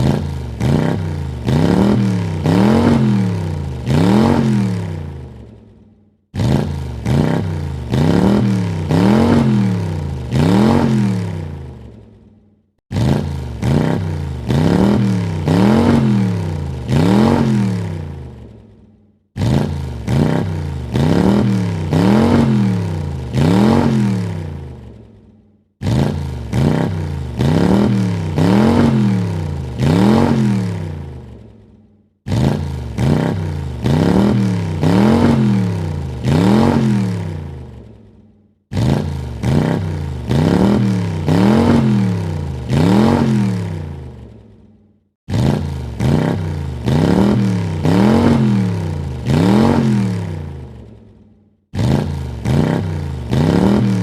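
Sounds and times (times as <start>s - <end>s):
car engine revving: 0.0s - 5.6s, 6.3s - 12.1s, 12.9s - 18.7s, 19.4s - 25.2s, 25.8s - 31.6s, 32.3s - 37.9s, 38.7s - 44.4s, 45.3s - 51.0s, 51.8s - 54.0s.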